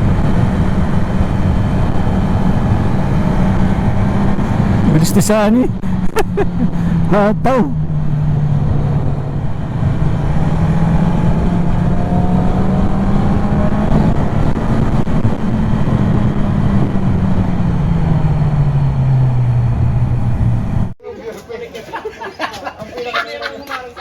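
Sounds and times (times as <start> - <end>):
motorcycle engine running: 0.0 - 21.0
wind rushing: 0.0 - 21.0.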